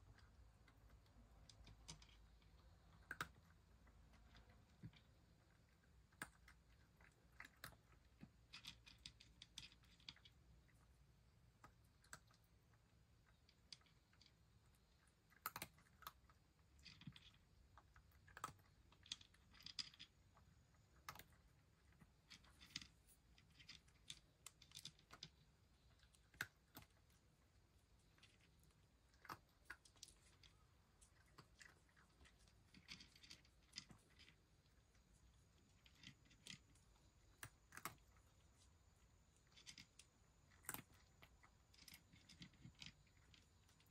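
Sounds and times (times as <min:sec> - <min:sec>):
cat crunching dry kibble: 0:00.0 - 0:43.9.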